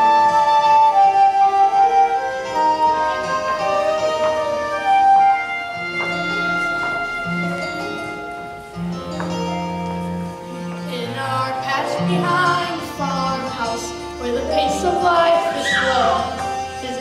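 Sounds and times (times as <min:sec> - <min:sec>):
musical theatre music: 0:00.0 - 0:17.0.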